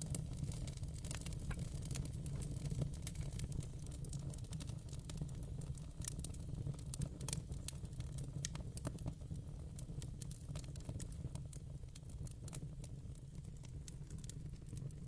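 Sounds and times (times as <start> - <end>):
low fire rumble: 0.0 - 15.0
wood fire crackling and popping: 0.0 - 15.0.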